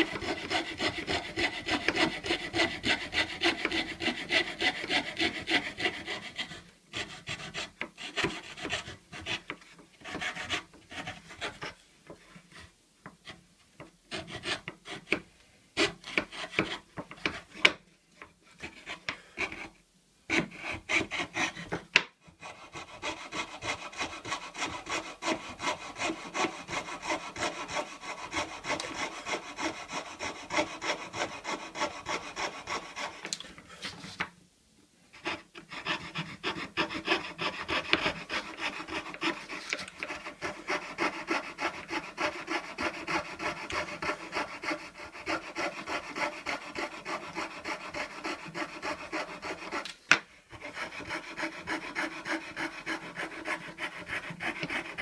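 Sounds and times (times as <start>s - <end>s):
fretsaw rasping through board: 0.0s - 11.7s, 15.8s - 17.7s, 20.3s - 33.4s, 35.2s - 49.9s, 50.6s - 55.0s.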